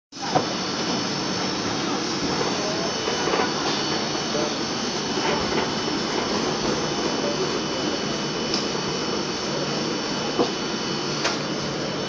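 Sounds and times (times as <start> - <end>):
kitchen machinery drone: 0.2 - 12.0.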